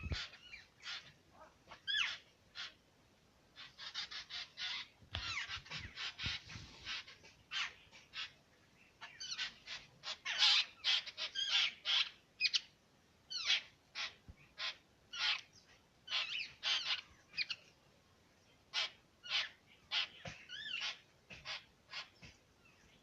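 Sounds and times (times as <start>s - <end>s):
birds chirping: 0.0s - 2.8s, 3.6s - 23.0s.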